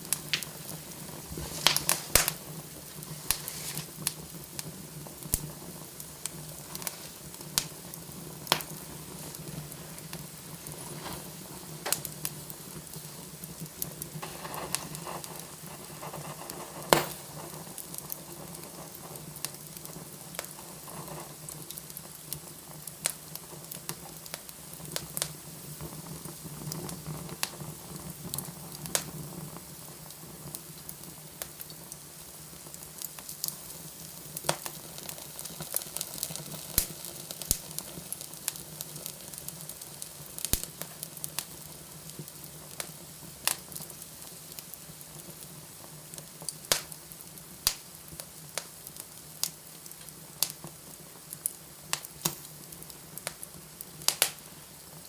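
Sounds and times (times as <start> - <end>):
fire crackling and popping: 0.0 - 55.0
fire hissing: 0.0 - 55.0.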